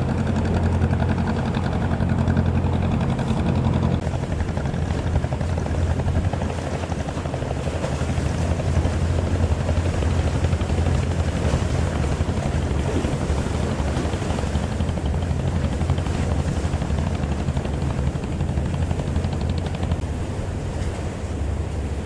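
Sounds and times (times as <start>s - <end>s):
boat engine throbbing: 0.0s - 22.0s.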